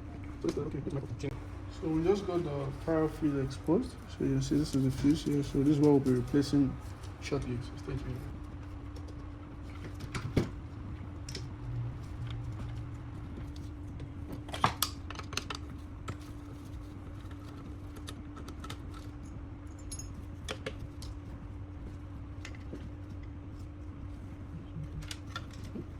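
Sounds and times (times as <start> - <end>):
steady electrical hum: 0.0 - 25.9.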